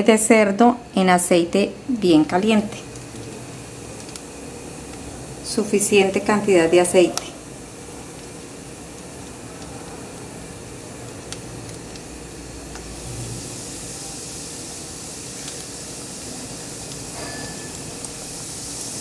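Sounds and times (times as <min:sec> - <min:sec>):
food deep-frying in oil: 0:00.8 - 0:19.0.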